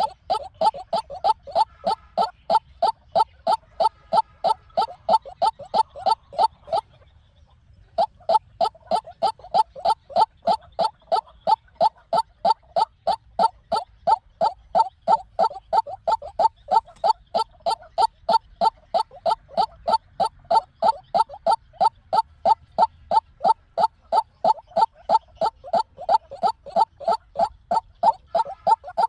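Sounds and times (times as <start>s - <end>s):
waterhen calling: 0.0s - 7.2s, 7.8s - 29.0s.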